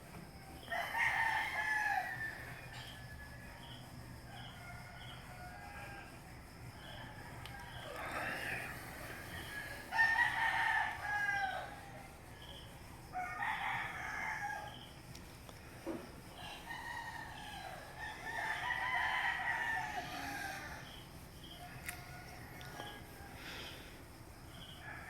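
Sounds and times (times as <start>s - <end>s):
roosters crowing: 0.3s - 25.0s.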